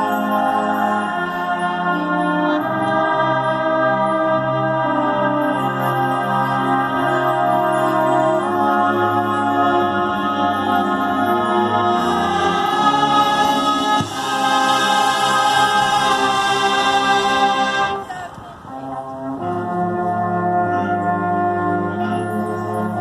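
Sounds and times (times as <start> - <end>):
brass band held chords: 0.0 - 23.0.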